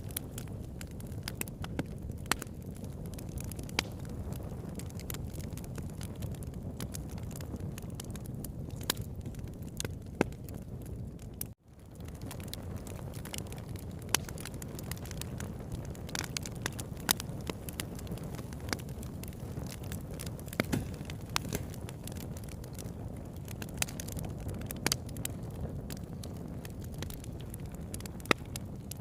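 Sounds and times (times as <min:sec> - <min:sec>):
campfire crackling and popping: 0:00.0 - 0:29.0
flames rushing: 0:00.0 - 0:29.0.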